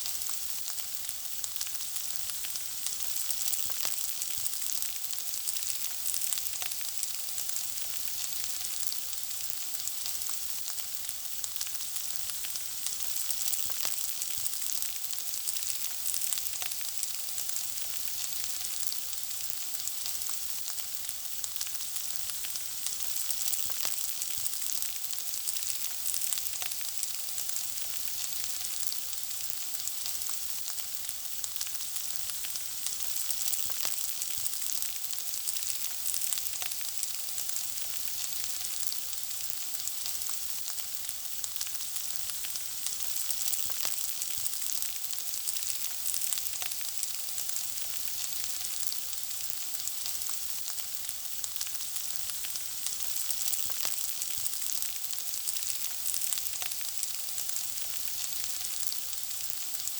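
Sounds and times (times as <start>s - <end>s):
food sizzling in hot oil: 0.0s - 59.9s
oil crackling and popping: 0.0s - 59.9s.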